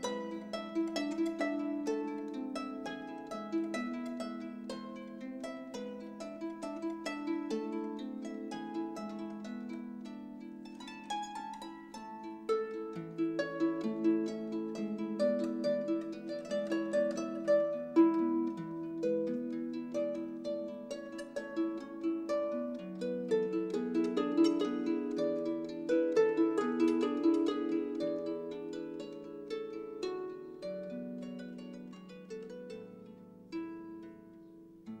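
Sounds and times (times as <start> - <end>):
plucked string melody: 0.0 - 35.0.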